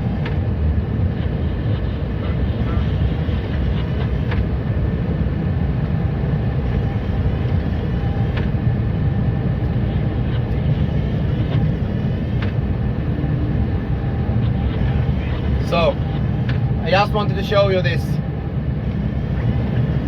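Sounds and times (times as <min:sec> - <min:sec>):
truck engine rumble and road noise: 0:00.0 - 0:20.0.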